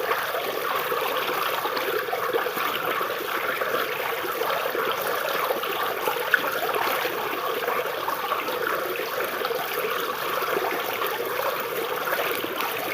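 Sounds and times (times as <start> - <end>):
stream water babbling: 0.0 - 12.9.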